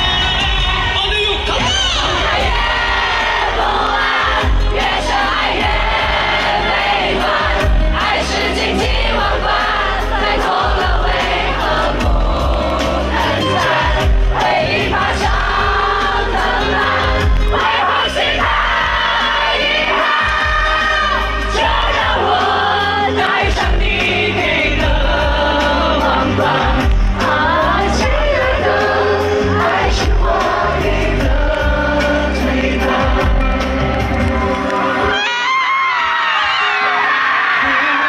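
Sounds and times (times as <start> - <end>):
amplified band playing: 0.0 - 38.0
crowd noise: 0.0 - 38.0.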